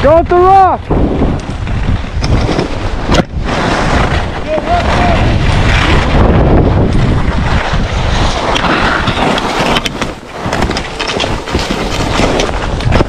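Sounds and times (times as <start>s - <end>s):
wind buffeting microphone: 0.0s - 13.0s
skis scraping on snow: 0.9s - 13.0s
sharp ski clicks and scrapes: 1.2s - 13.0s.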